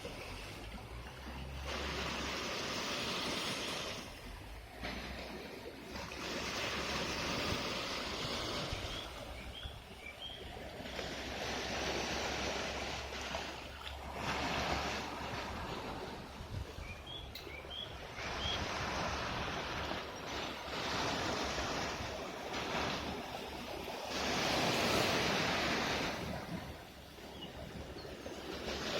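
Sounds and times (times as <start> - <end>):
waves washing onto shore: 0.0 - 28.9
wind rumble on microphone: 0.0 - 28.9.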